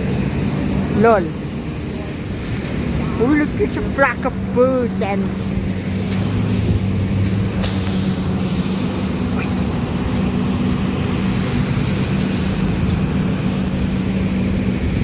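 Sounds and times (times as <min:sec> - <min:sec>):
street noise: 0:00.0 - 0:15.0
vehicle engine humming: 0:00.0 - 0:15.0.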